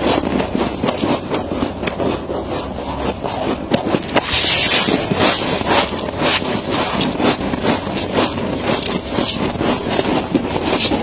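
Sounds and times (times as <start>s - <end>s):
frost being chewed crunching: 0.0s - 11.0s.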